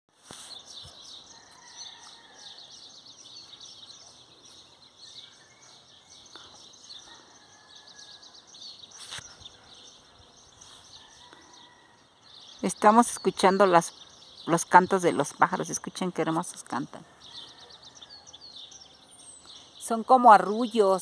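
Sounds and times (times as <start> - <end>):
small birds chirping chorus: 0.1 - 21.0.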